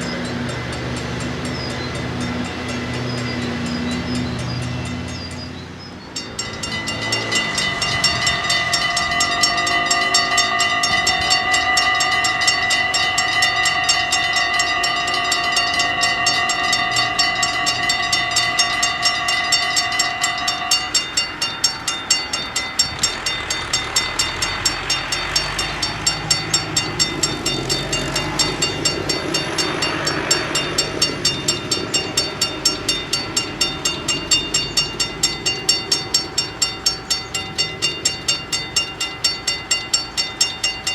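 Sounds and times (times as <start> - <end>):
train horn blast: 0.0 - 36.6
level-crossing bells ringing: 0.0 - 40.9
train rolling over rails: 0.0 - 40.9.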